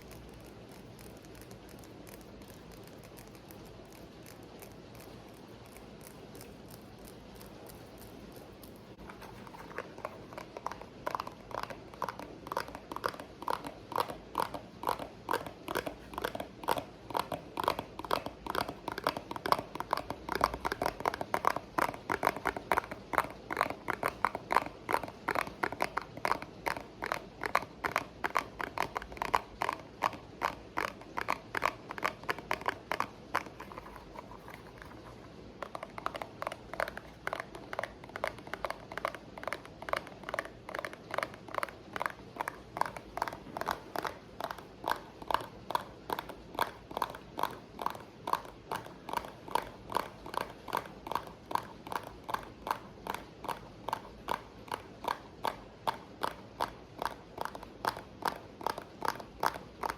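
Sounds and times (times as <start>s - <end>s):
quick steady tapping: 0.0s - 59.9s.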